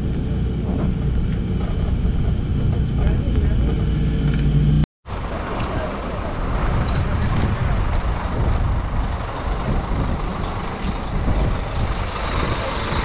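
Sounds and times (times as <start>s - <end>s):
buses idling and moving: 0.0s - 13.0s.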